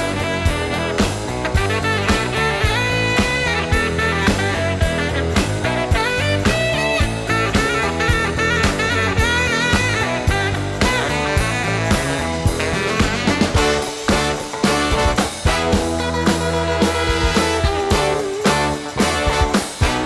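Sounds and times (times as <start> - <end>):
upbeat instrumental music: 0.0 - 20.0.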